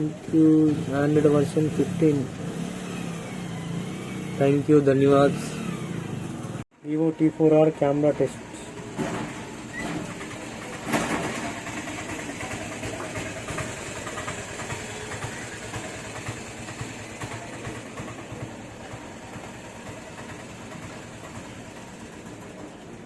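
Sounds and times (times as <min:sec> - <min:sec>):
engine or traffic noise: 0:00.0 - 0:23.0.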